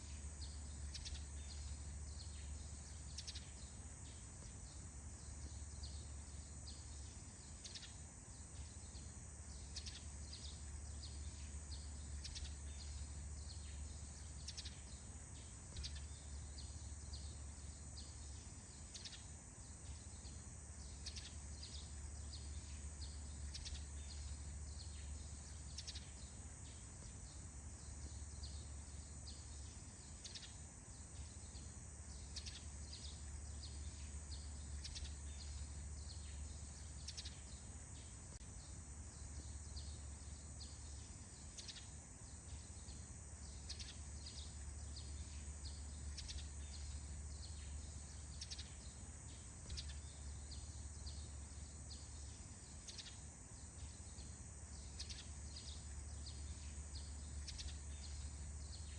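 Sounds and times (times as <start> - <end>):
high-pitched insect hiss: 0.0 - 58.9
small birds chirping: 0.0 - 58.9.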